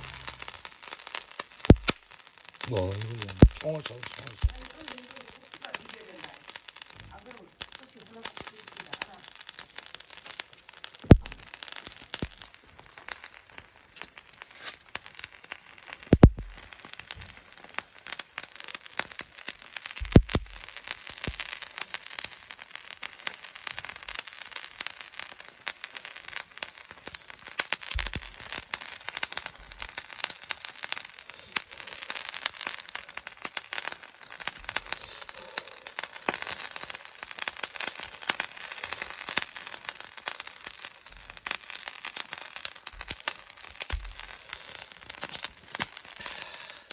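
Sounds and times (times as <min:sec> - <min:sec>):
fish sizzling over wood fire: 0:00.0 - 0:46.9
sharp fire pops: 0:00.0 - 0:46.9.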